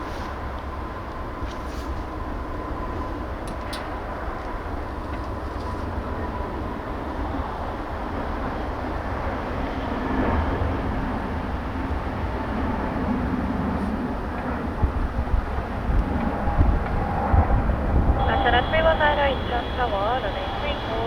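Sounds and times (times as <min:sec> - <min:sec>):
jet engines at takeoff power: 0:00.0 - 0:21.0.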